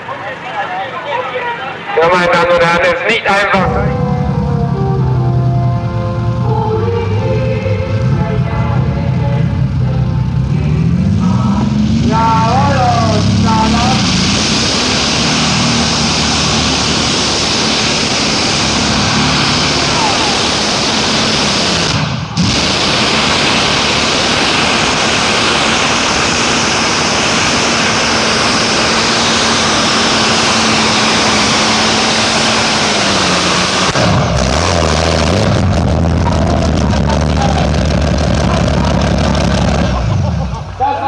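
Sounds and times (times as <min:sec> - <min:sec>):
tractor engine revving hard: 0:03.5 - 0:41.0.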